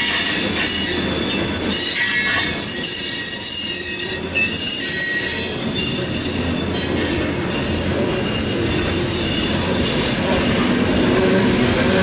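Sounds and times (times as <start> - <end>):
steel wheels rumbling on rail: 0.0 - 12.0
train wheels squealing: 0.0 - 12.0.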